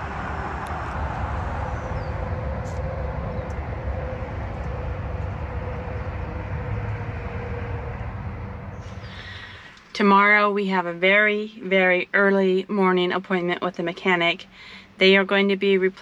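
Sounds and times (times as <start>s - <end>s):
faint steady hum: 0.0s - 16.0s
traffic rumble: 0.0s - 16.0s.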